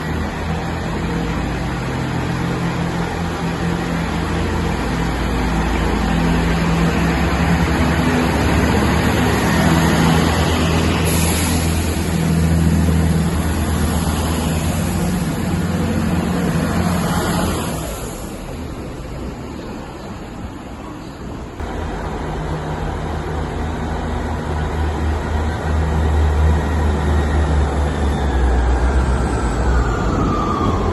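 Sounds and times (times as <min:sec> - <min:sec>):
train engine humming: 0:00.0 - 0:30.9.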